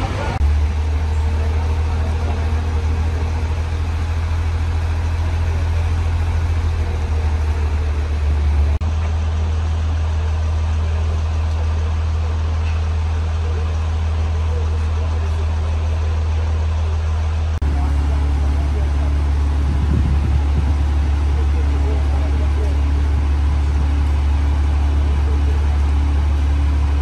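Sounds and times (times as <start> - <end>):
large vehicle engine idling: 0.0 - 27.0.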